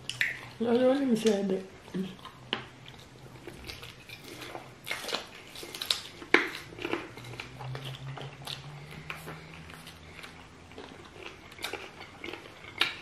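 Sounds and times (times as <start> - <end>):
chewing and mouth smacks: 0.0 - 13.0.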